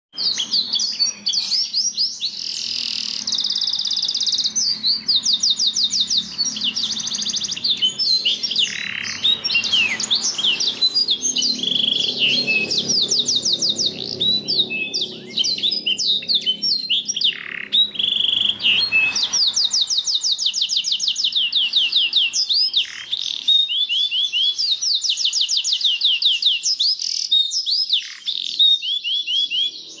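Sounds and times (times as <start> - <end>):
canary singing trills: 0.1 - 30.0.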